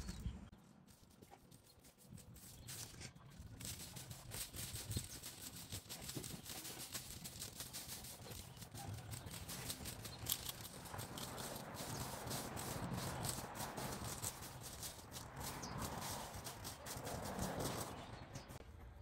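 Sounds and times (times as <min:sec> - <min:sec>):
rake scraping soil and leaves: 0:00.8 - 0:18.6.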